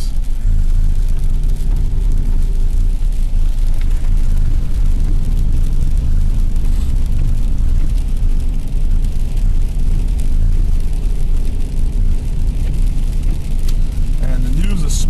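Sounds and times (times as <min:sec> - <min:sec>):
faint steady hum: 0:00.0 - 0:15.0
vehicle driving on slushy road: 0:00.0 - 0:15.0.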